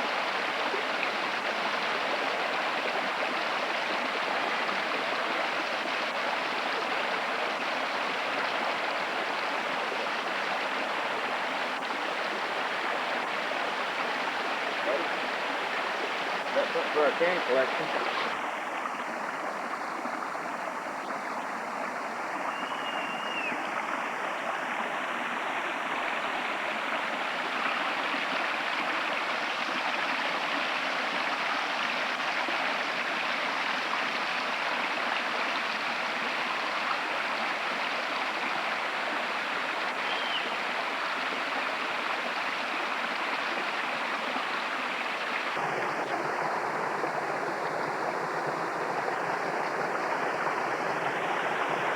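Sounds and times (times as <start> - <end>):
stream rushing: 0.0 - 51.9.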